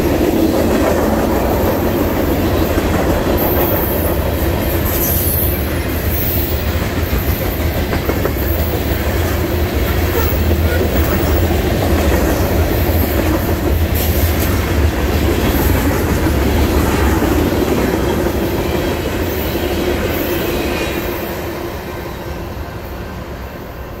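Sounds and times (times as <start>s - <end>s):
freight train cars rolling past: 0.0s - 24.0s.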